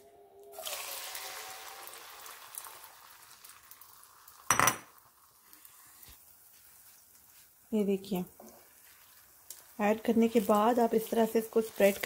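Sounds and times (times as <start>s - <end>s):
batter sizzling in a frying pan: 0.5s - 12.0s.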